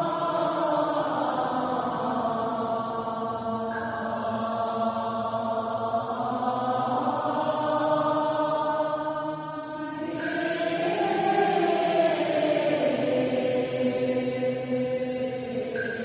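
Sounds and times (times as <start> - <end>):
chant-like voices singing: 0.0 - 16.0.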